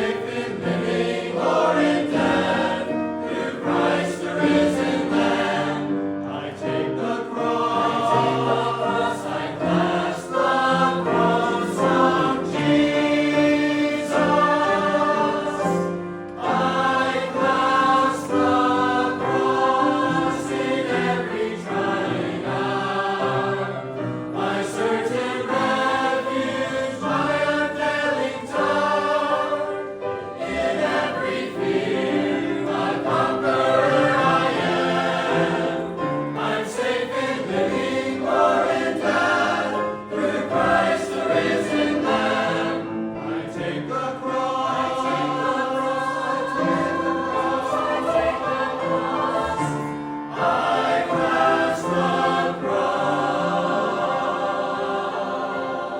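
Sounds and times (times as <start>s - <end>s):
choir singing a hymn: 0.0s - 55.9s.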